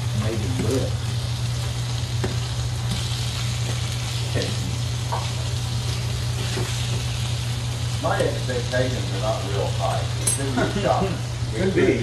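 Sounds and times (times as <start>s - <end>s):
fish sizzling in a frying pan: 0.0s - 12.0s
steady low hum: 0.0s - 12.0s.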